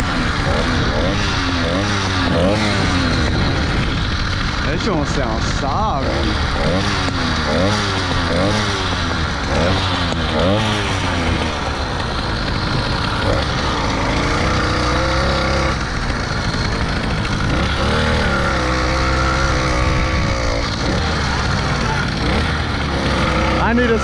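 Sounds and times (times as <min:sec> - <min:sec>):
small motorbike engine revving: 0:00.0 - 0:24.0.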